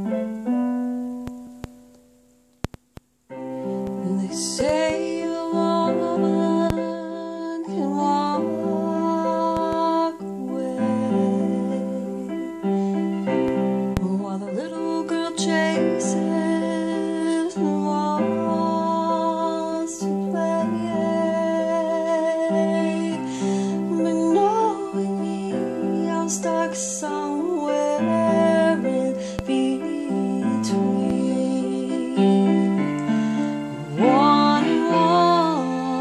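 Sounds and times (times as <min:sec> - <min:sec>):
slow piano chords on keyboard: 0:00.0 - 0:36.0
woman singing: 0:03.6 - 0:36.0.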